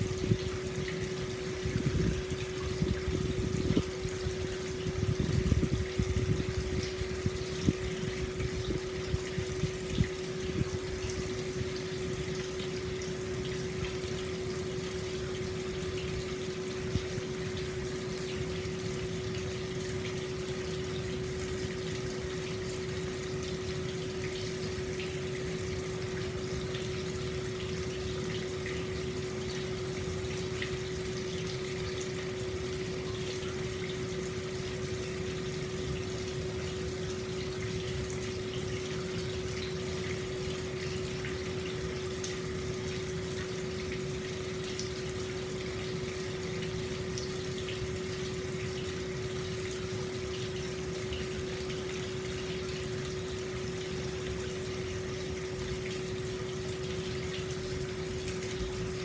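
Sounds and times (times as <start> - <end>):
steady hum: 0.0 - 59.0
water pouring into a bath: 0.0 - 59.0.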